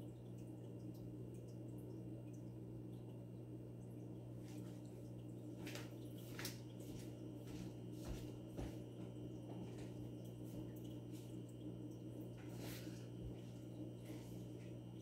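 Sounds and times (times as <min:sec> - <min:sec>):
aquarium pump humming: 0:00.0 - 0:15.0
faint water clicks: 0:00.0 - 0:15.0.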